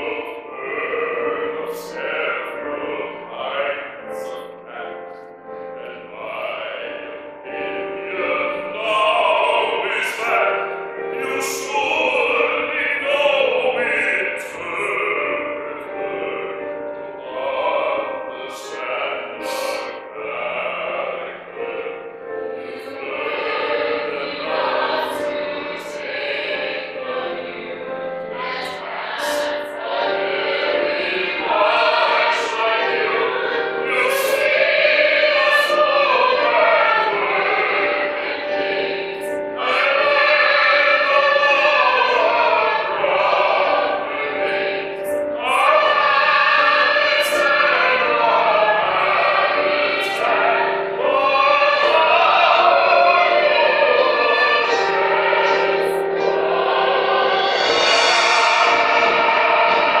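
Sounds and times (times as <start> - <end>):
chorus singing: 0.0 - 60.0
instrumental accompaniment: 0.0 - 60.0.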